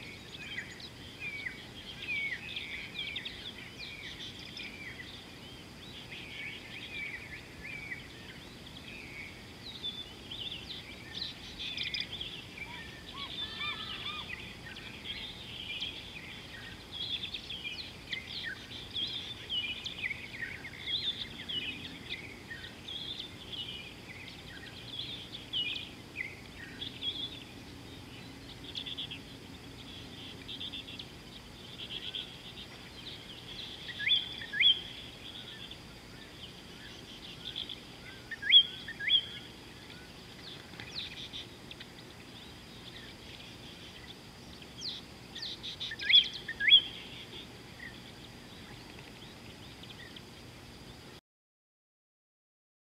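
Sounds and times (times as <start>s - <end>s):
birds chirping and whistling: 0.0s - 50.3s.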